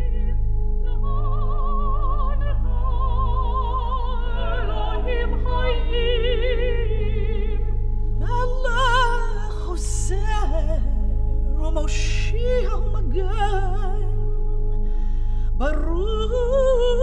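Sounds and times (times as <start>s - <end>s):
slow melody with vibrato: 0.0s - 17.0s
steady low drone: 0.0s - 17.0s.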